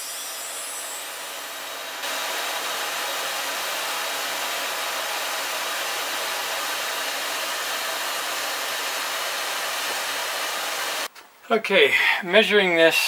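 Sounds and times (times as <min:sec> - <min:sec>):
shop vacuum running: 0:00.0 - 0:11.1.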